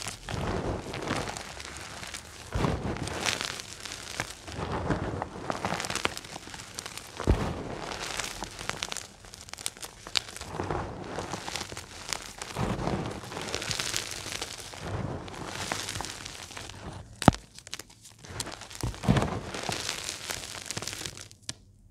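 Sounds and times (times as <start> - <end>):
chalk crunching and crumbling: 0.0 - 21.6.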